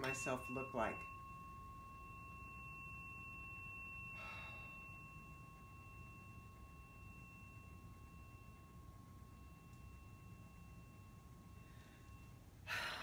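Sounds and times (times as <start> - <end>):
tuning fork ringing: 0.0 - 13.0.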